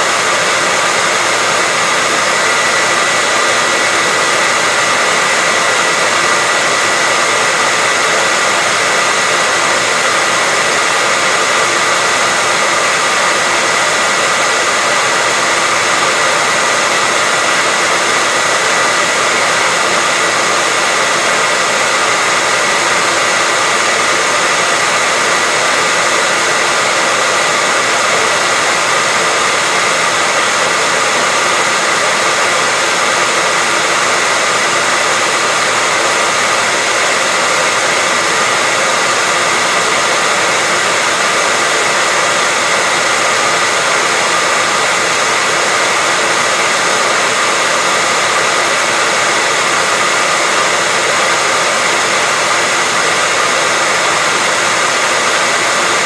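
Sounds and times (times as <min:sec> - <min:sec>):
hair dryer blowing air: 0:00.0 - 0:56.0.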